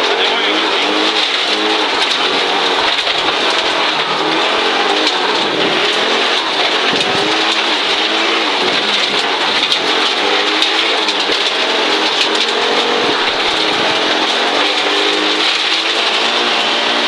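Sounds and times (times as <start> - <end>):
car engine at speed: 0.0 - 17.0
tyres hissing on gravel: 0.1 - 17.0.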